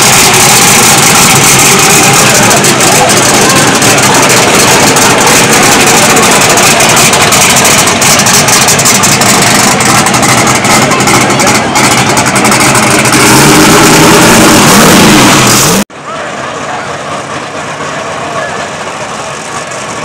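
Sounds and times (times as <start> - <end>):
car engine rolling past: 0.0 - 20.0.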